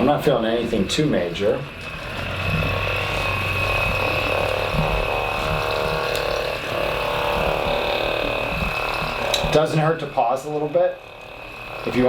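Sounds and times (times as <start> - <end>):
massage gun motor whining: 0.0 - 12.0.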